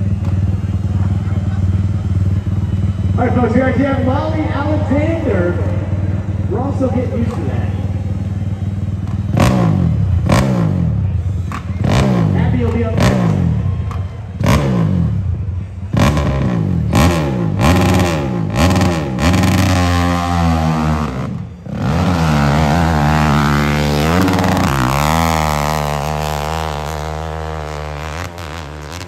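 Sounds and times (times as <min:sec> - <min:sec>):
dirt bike engine revving: 0:00.0 - 0:13.6, 0:14.3 - 0:29.0.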